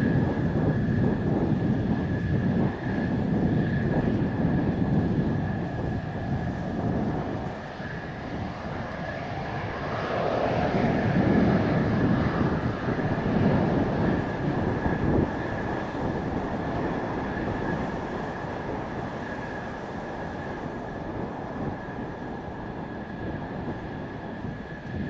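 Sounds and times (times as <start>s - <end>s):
jet engine whine and rumble: 0.0s - 25.0s
wind buffeting microphone: 0.0s - 25.0s.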